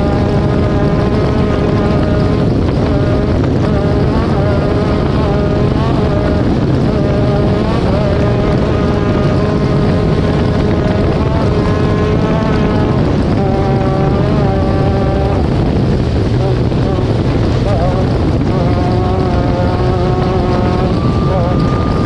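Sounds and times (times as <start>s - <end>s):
constant rush of noise: 0.0s - 22.0s
race vehicle engine running hard: 0.0s - 22.0s.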